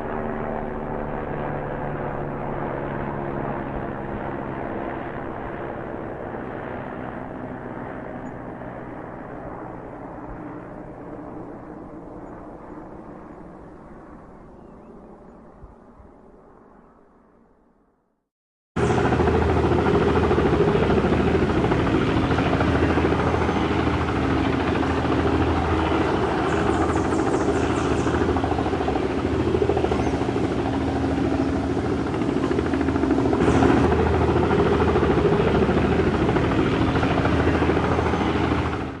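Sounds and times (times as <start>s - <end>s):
helicopter rotor and engine: 0.0s - 17.5s, 18.8s - 39.0s.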